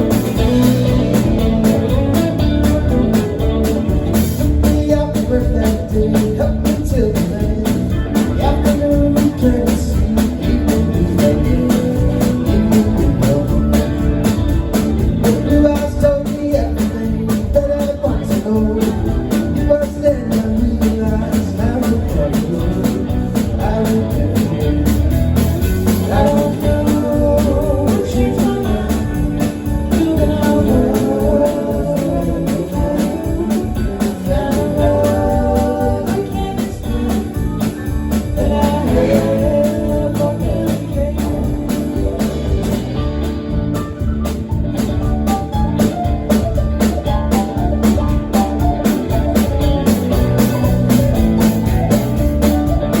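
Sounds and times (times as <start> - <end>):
person singing: 0.0 - 42.8
electric guitar: 0.0 - 53.0
live blues-rock band: 0.0 - 53.0.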